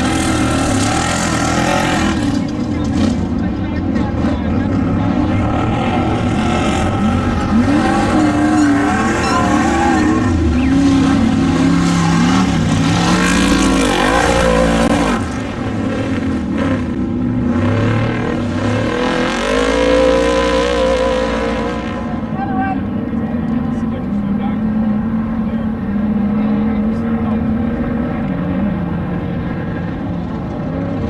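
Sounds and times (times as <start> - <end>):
off-road vehicle engines revving: 0.0 - 31.0.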